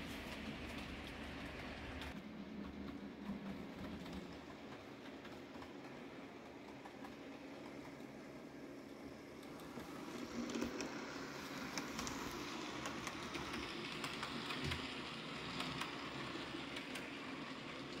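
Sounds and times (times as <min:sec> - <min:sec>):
model train motor and wheel hum: 0:00.0 - 0:18.0.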